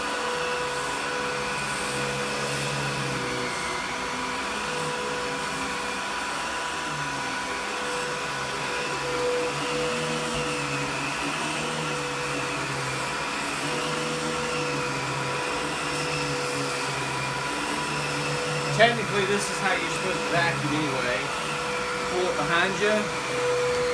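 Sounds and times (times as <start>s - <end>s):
vacuum cleaner motor hum: 0.0s - 23.9s
vacuum nozzle on carpet: 0.0s - 23.9s.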